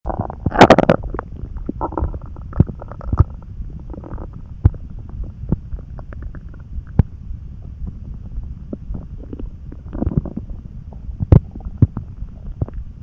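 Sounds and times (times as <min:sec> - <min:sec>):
stomach gurgling and churning: 0:00.1 - 0:13.0.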